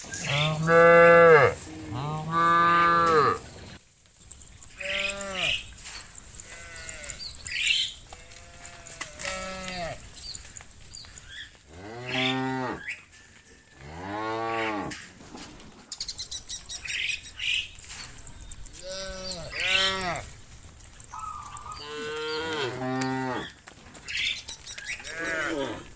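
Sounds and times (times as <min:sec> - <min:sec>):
cows mooing: 0:00.2 - 0:03.4, 0:04.6 - 0:15.2, 0:17.0 - 0:23.6, 0:24.9 - 0:25.9.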